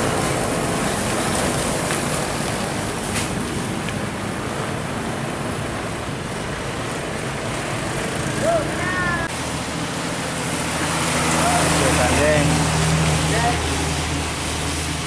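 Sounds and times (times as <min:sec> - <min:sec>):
diesel truck passing: 0:00.0 - 0:15.0.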